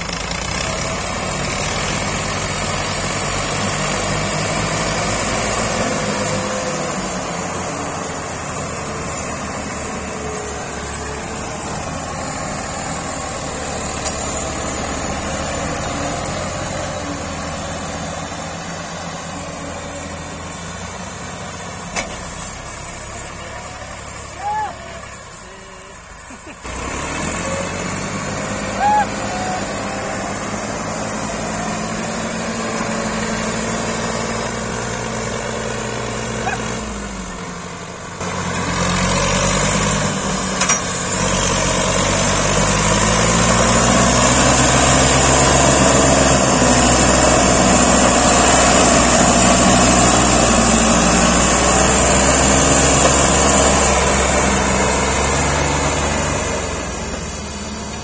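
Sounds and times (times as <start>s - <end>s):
tractor diesel engine working hard: 0.0s - 58.0s.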